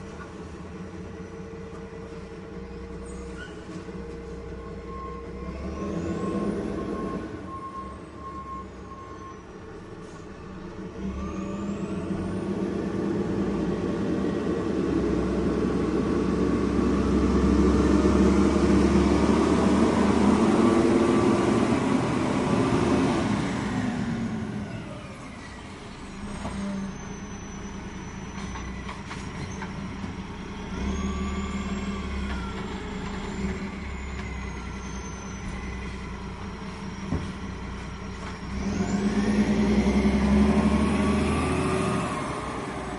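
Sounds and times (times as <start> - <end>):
heavy diesel engine under load: 0.0 - 42.9.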